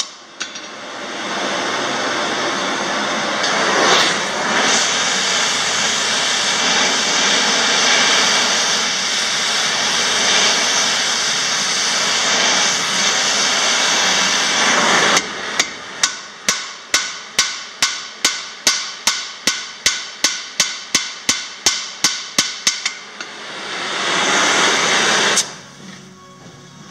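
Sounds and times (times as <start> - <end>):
gas torch roaring: 0.0 - 26.9.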